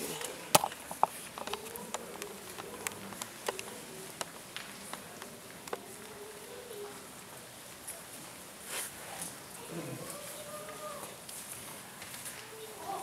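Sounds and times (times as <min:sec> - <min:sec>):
faint background murmur: 0:00.0 - 0:13.0.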